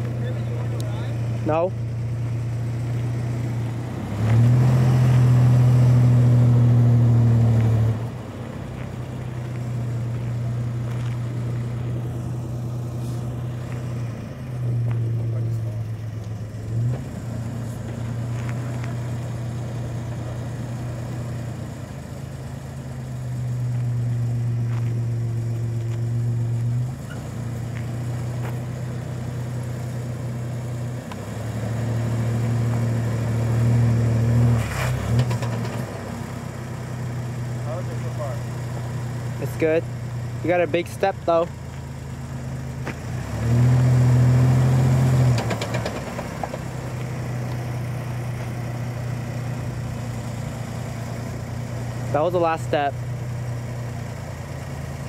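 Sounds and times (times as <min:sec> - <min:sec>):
truck engine throttle surges: 0:00.0 - 0:55.0.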